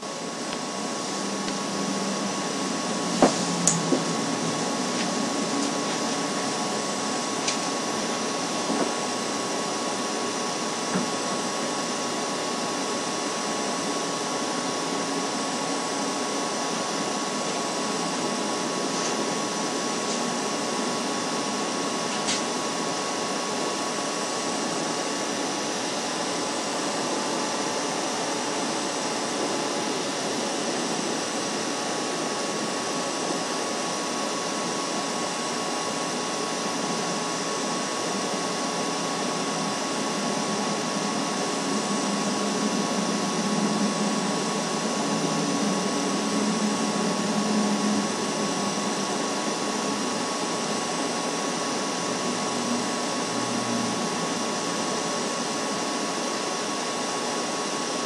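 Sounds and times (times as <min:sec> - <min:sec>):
thin steady hum: 0:00.0 - 0:58.0.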